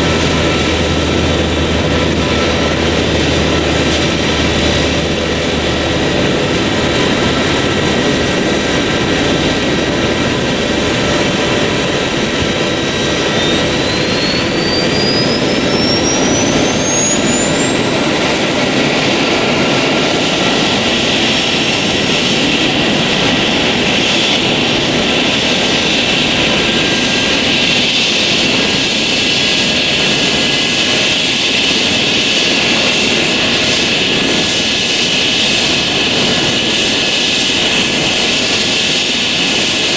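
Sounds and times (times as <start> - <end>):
engine rush: 0.0 - 39.9
helicopter turbine whine: 0.0 - 39.9.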